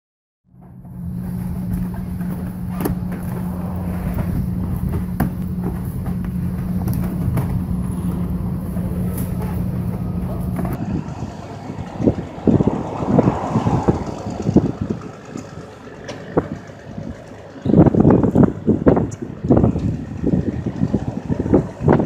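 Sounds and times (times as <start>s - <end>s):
engine humming: 0.5s - 22.0s.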